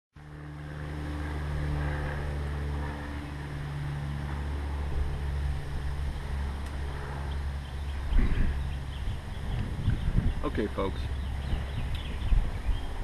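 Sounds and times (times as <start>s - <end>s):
engine droning: 0.2s - 13.0s.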